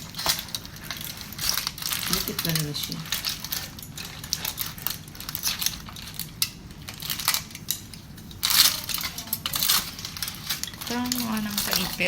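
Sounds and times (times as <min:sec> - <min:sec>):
crisp chicken skin crunching: 0:00.0 - 0:12.0.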